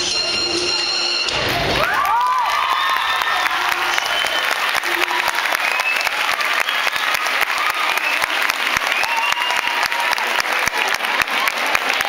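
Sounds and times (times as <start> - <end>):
shouts and cheers: 1.3 - 12.0
audience clapping: 1.5 - 12.0.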